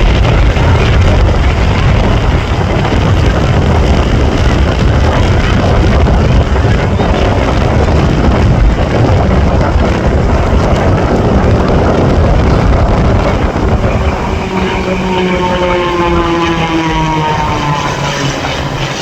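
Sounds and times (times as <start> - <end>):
aircraft engine roar: 0.0 - 19.0
wind buffeting microphone: 0.0 - 19.0.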